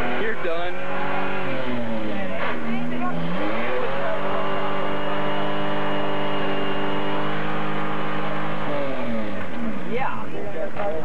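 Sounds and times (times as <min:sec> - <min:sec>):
engine revving at redline: 0:00.0 - 0:11.0.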